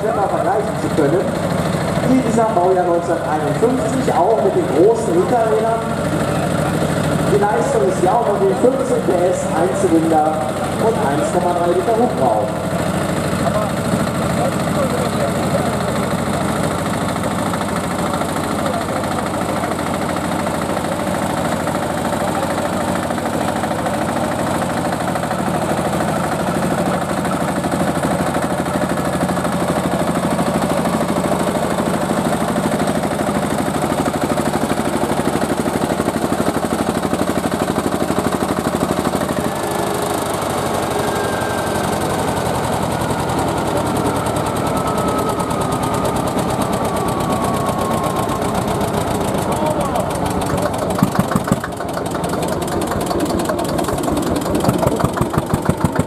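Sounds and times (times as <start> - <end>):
diesel tractor engine under load: 0.0 - 56.0.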